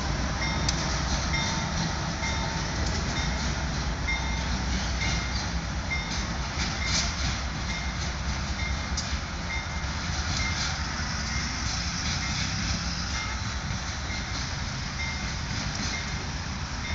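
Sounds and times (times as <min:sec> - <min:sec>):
locomotive diesel engines droning: 0:00.0 - 0:16.9.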